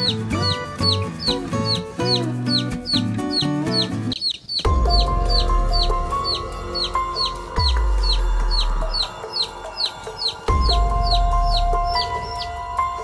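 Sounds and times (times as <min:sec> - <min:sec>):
background music with deep bass: 0:00.0 - 0:13.0
chick peeping: 0:00.0 - 0:13.0.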